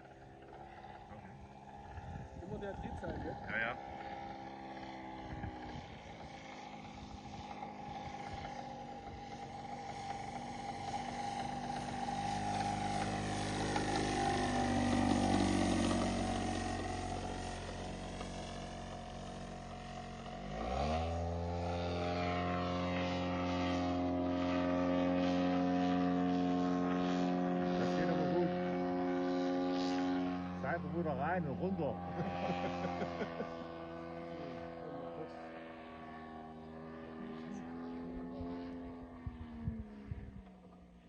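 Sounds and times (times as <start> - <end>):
model airplane engine droning: 0.0 - 41.0.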